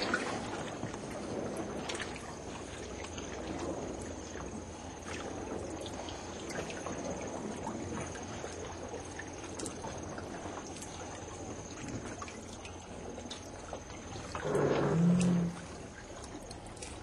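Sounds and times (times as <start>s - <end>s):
small drips and splashes: 0.0s - 17.0s
water sloshing around canoe: 0.0s - 17.0s.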